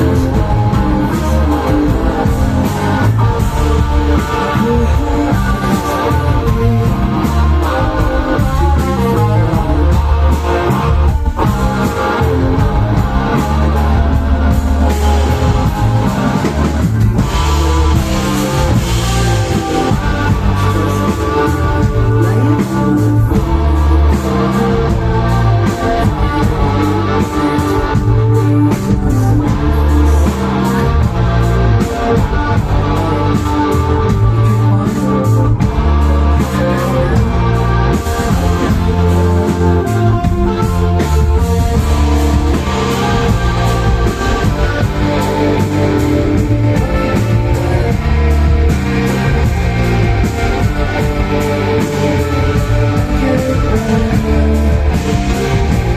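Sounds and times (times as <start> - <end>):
cymbals: 0.0 - 55.9
drums keeping steady beat: 0.0 - 55.9
heavy bass guitar notes: 0.0 - 55.9
rock band playing live: 0.0 - 55.9.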